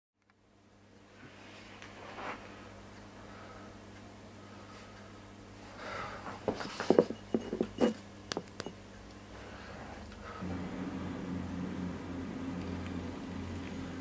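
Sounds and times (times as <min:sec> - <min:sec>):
faint steady hum: 0:00.2 - 0:14.0.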